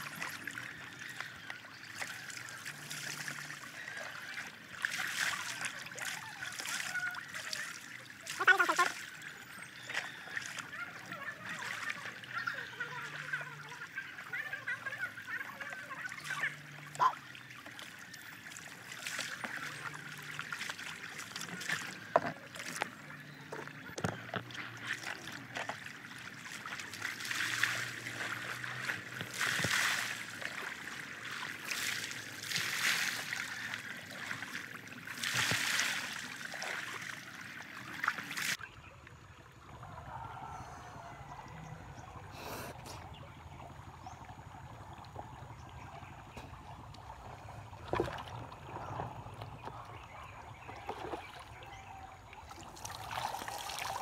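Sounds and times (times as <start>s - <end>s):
water splashing and pouring: 0.0s - 38.7s, 42.8s - 54.0s
stream water running: 0.0s - 54.0s.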